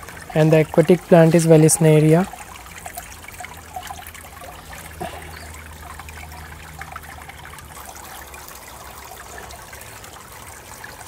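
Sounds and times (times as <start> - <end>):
water trickling into pond: 0.0 - 11.0.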